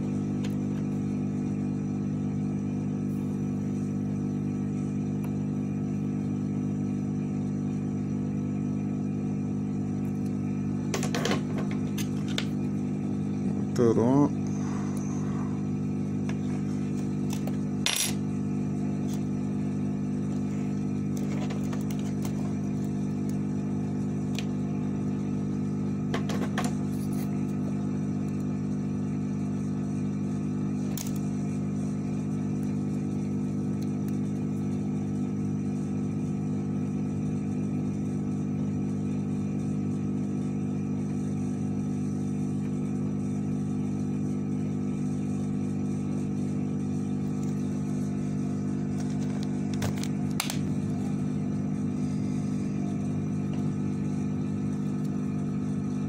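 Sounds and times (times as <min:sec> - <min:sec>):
small electric motor humming: 0:00.0 - 0:56.0.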